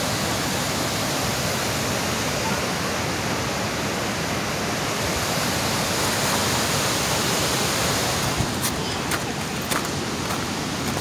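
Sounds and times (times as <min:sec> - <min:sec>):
whitewater rushing: 0:00.0 - 0:11.0.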